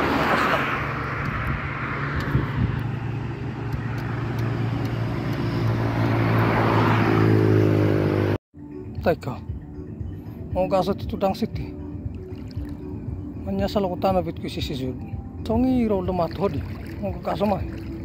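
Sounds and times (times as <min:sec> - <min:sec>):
vehicle engine humming: 0:00.0 - 0:08.4, 0:11.7 - 0:18.0
road noise: 0:00.0 - 0:18.0.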